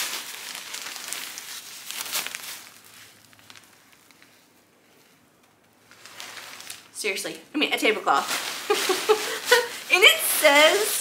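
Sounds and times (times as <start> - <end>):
plastic tablecloth crinkling: 0.0 - 7.0, 7.8 - 11.0.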